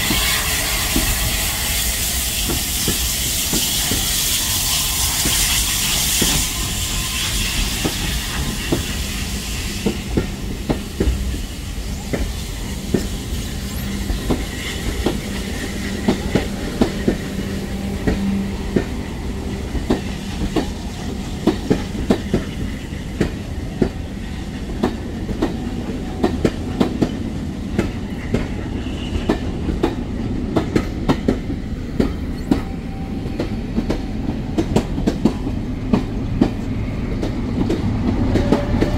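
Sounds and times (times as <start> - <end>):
steam locomotive hissing: 0.0 - 38.9
train wheels clacking over rail joints: 0.0 - 38.9.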